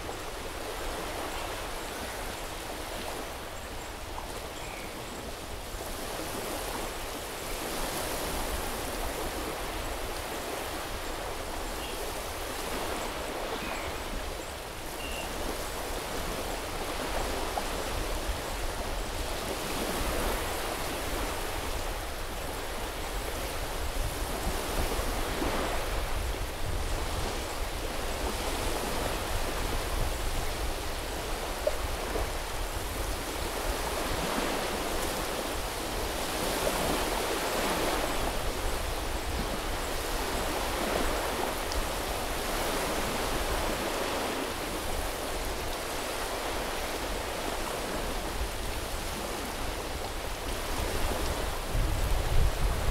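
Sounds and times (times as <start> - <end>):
small waves on sandy beach: 0.0 - 52.9.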